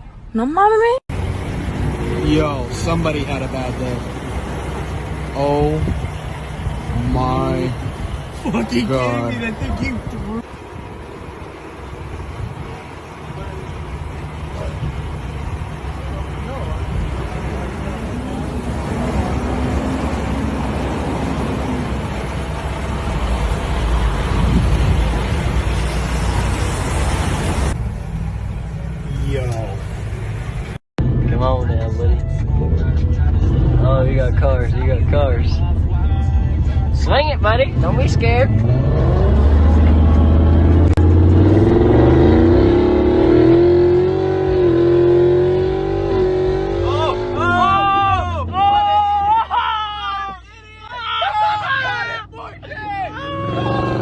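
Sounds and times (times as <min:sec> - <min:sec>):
road traffic rumble: 0:00.0 - 0:54.0
car engine revving: 0:01.1 - 0:31.9, 0:32.6 - 0:48.7.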